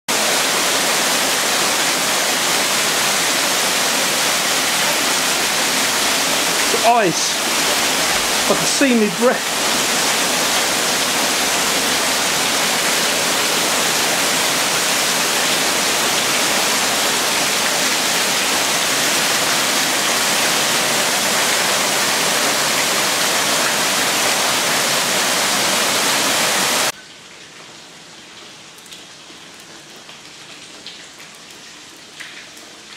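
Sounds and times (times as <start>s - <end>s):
heavy rain on tiles: 0.1s - 32.9s
muffled rain patter and drips: 0.1s - 32.9s.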